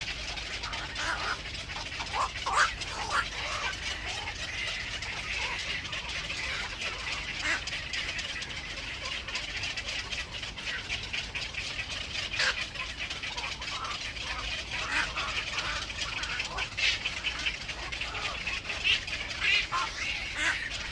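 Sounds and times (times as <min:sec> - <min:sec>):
birds chattering: 0:00.0 - 0:20.9.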